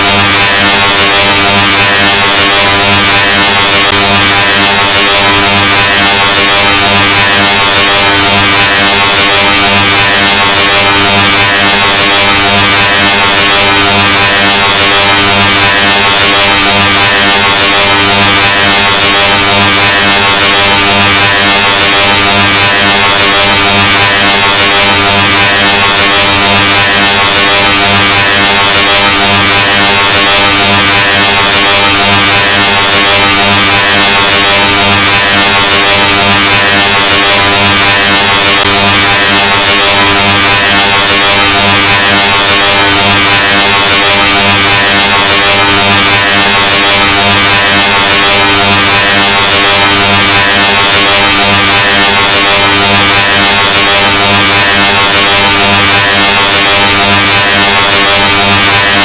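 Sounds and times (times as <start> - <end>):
distorted buzzing drone: 0.0 - 59.0.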